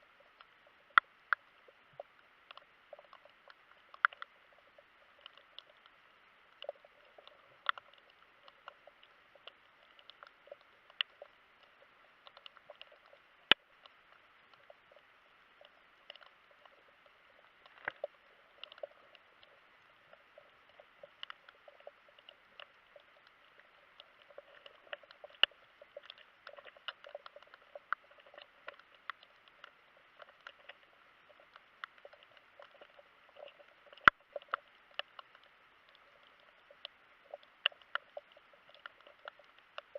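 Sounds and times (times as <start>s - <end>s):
underwater crackling clicks: 0.0s - 39.9s.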